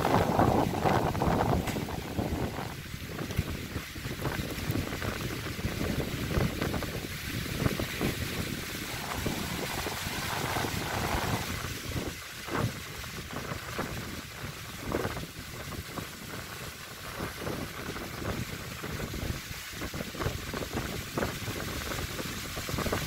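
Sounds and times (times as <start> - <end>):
gusty wind blowing hard: 0.0 - 23.0
wind buffeting microphone: 0.0 - 23.0.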